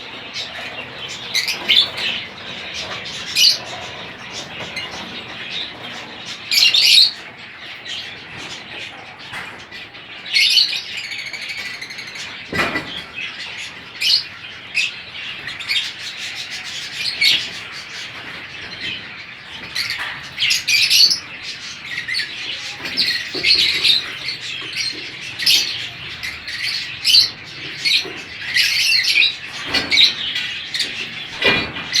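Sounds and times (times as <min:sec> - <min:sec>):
lovebirds chirping: 0:00.0 - 0:32.0.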